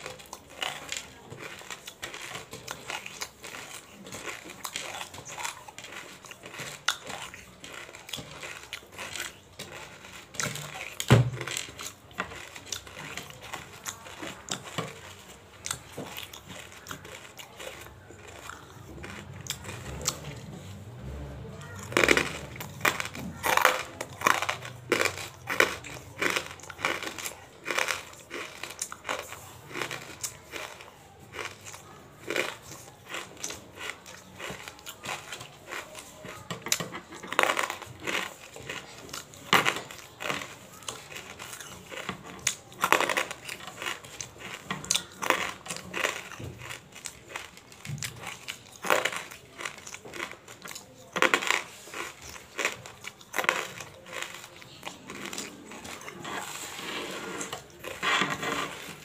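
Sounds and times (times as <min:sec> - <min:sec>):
chewing crunchy crystals: 0:00.0 - 0:59.0.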